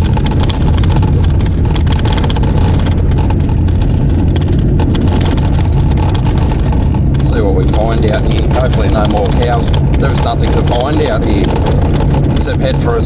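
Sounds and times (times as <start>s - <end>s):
car engine and tyre drone: 0.0s - 13.0s
clicks and rattles: 0.0s - 13.0s.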